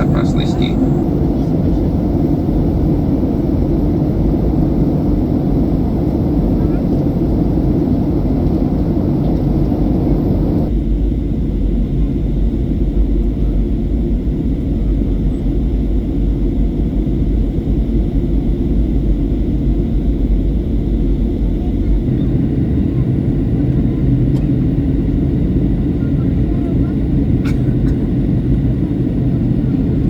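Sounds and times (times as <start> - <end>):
airplane cabin rumble: 0.0 - 30.0.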